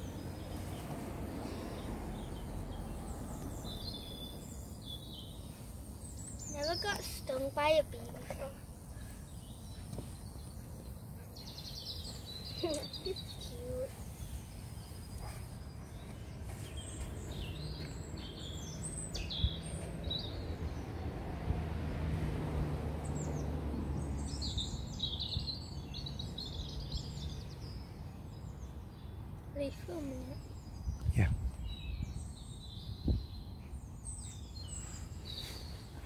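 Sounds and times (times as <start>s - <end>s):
small birds chirping: 0.0s - 21.5s, 23.0s - 36.0s
outdoor background noise: 0.0s - 36.0s.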